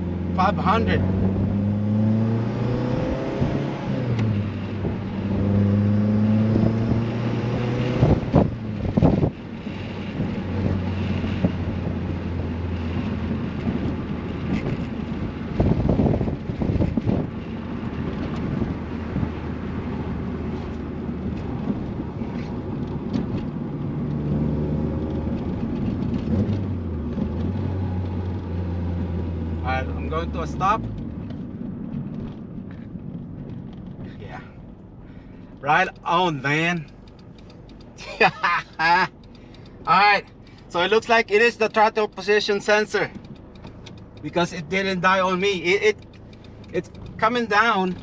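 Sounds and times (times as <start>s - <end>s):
car engine from inside cabin: 0.0s - 48.0s.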